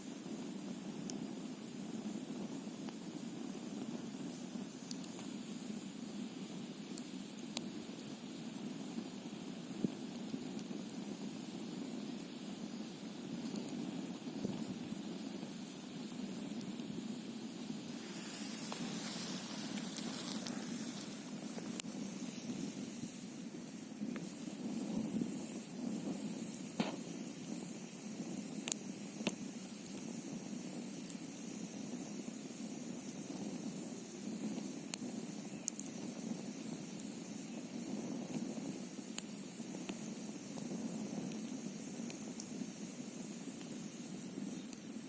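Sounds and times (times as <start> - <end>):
steady rushing hiss: 0.0 - 45.0
campfire crackling and popping: 0.1 - 45.0.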